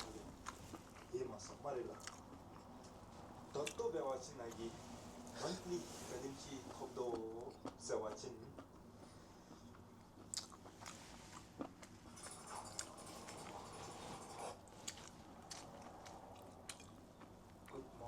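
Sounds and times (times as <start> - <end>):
person chewing and biting: 0.0 - 3.8, 6.7 - 13.8, 14.4 - 17.9.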